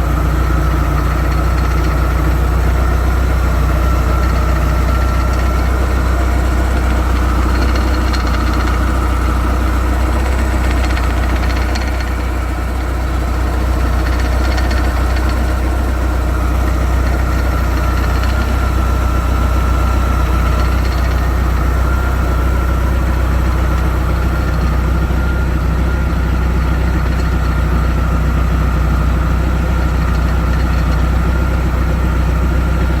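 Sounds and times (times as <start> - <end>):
boat engine idling: 0.0 - 33.0.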